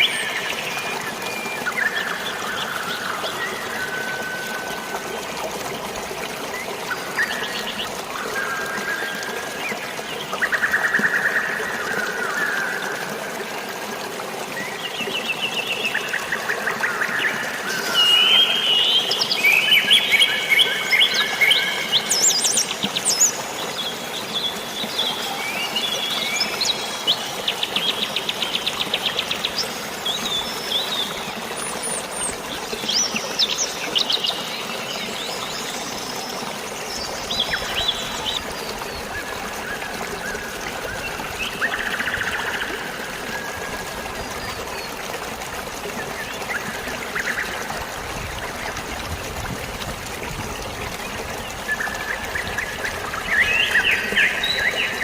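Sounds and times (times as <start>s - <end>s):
rain: 0.0s - 55.0s
running water: 0.0s - 55.0s.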